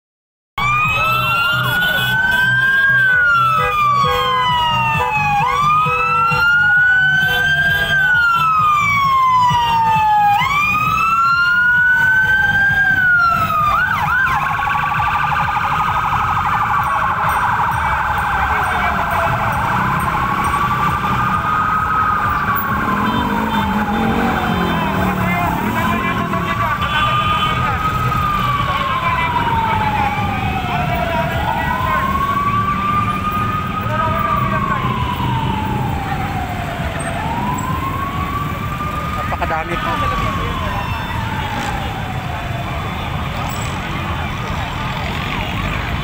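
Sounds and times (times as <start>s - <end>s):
siren wailing: 0.6s - 46.0s.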